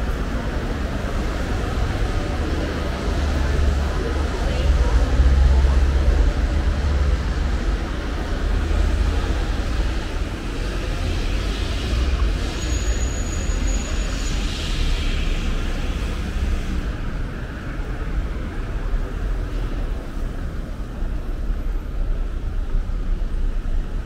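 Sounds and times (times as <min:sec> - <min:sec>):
city street traffic rumble: 0:00.0 - 0:24.0.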